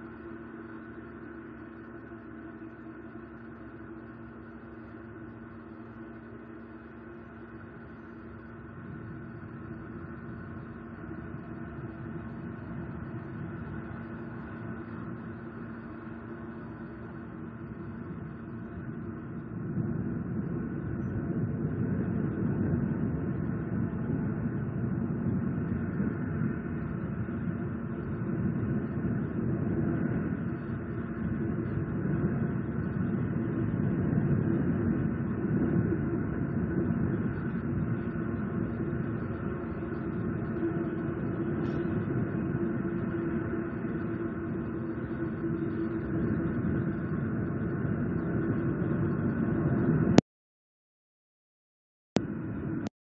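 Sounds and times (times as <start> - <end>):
faint constant hum: 0.0 - 50.2, 52.2 - 52.9
steady low rumble: 0.0 - 50.2, 52.2 - 52.9.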